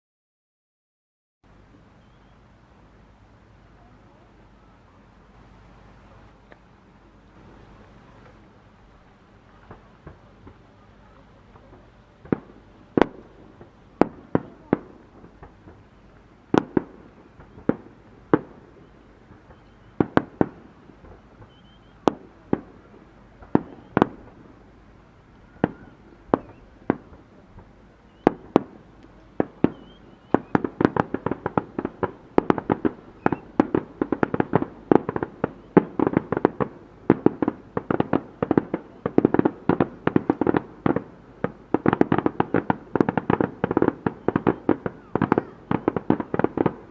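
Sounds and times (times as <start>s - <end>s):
fireworks bangs and crackles: 3.8s - 46.9s.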